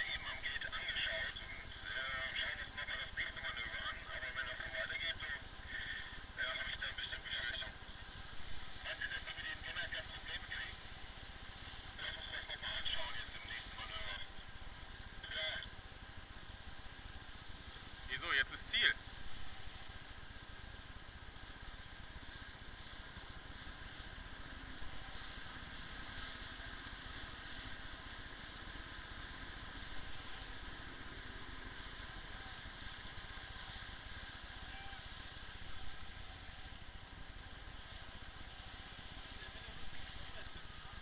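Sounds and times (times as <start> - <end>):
hiss of wind and water: 0.0 - 41.0
motorboat engine running: 0.0 - 41.0.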